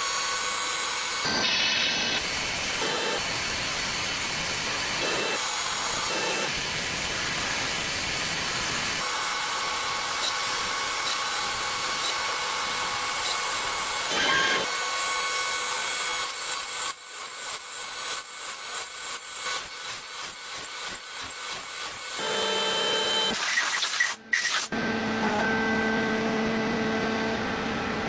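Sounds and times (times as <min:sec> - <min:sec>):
milling machine cutting: 0:00.0 - 0:24.8.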